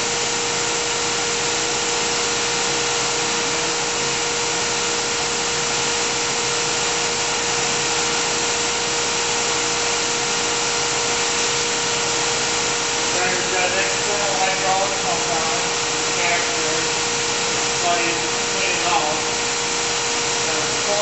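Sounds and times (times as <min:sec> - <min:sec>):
surface grinder running: 0:00.0 - 0:21.0.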